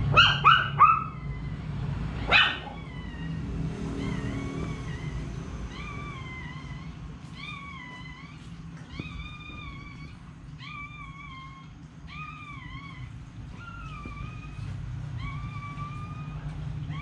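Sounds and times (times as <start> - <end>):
puppies crying high-pitched: 0.0 - 17.0.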